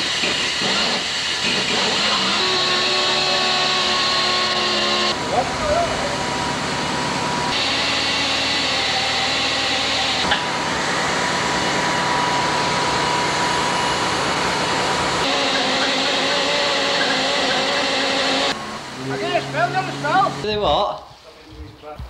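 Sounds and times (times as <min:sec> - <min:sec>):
loud rushing mechanical noise: 0:00.0 - 0:20.6.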